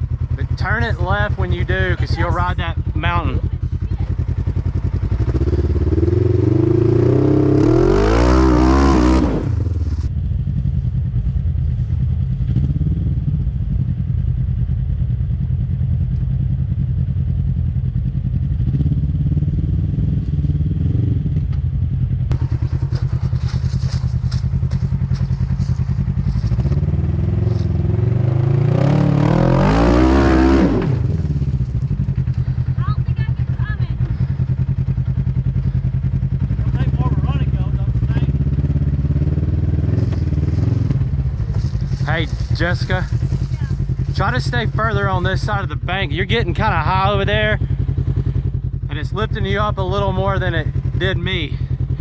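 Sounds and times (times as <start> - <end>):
off-road vehicle engine revving: 0.0 - 10.1, 12.3 - 52.0.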